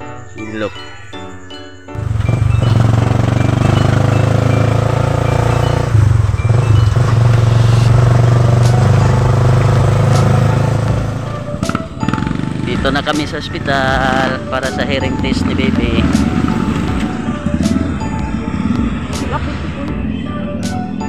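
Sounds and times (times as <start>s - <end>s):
vehicle engine and road noise: 2.0s - 21.0s.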